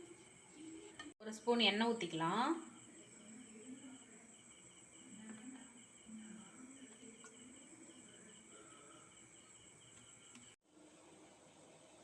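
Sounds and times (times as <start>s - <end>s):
faint cricket chirping: 0.0s - 10.6s.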